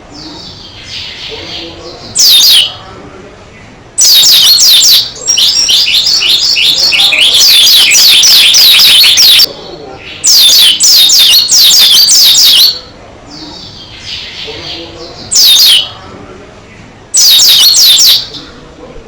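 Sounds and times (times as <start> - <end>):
bird singing high chirps: 0.1 - 2.8, 4.0 - 16.0, 17.1 - 18.5.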